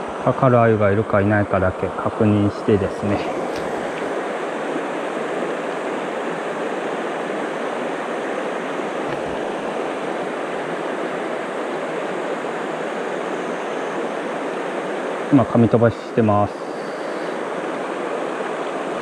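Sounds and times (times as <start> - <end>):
river rushing: 2.6 - 19.0.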